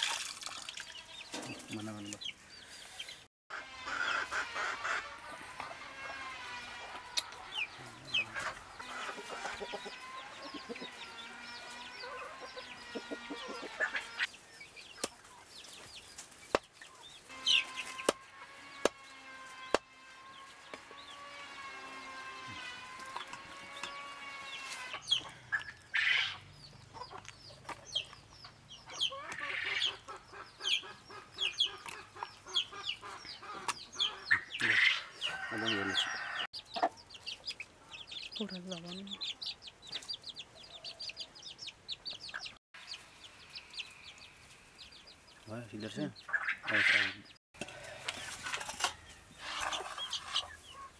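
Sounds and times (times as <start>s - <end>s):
chickens clucking: 1.0s - 18.2s, 22.4s - 50.9s.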